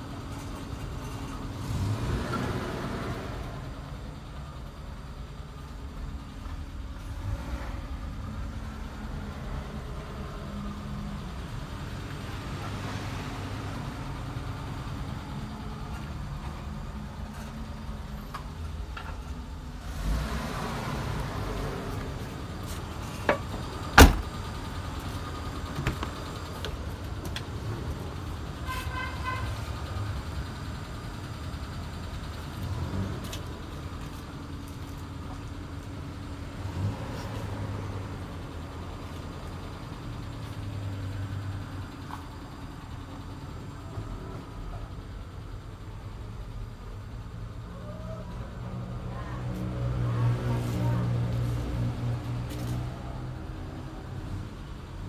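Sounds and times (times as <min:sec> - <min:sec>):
car engine idling: 0:02.8 - 0:55.0.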